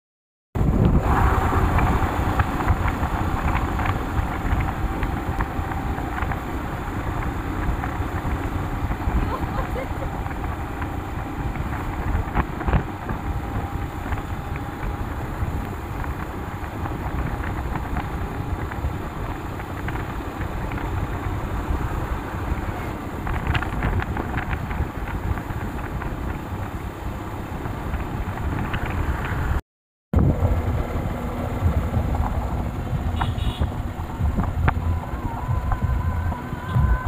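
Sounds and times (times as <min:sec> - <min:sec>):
motorcycle engine running: 0:00.6 - 0:29.4, 0:30.2 - 0:37.0
wind buffeting microphone: 0:00.6 - 0:29.6, 0:30.2 - 0:37.0.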